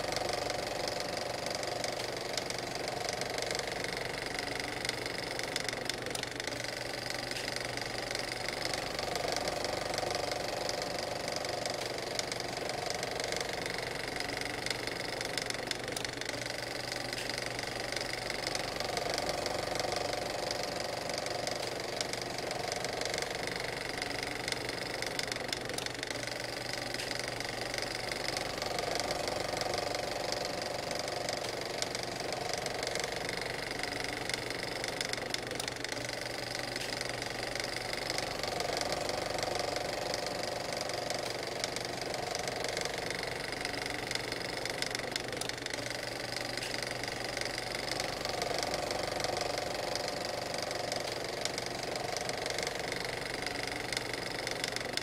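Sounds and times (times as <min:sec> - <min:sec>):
motor running with fast rattle: 0:00.0 - 0:55.0.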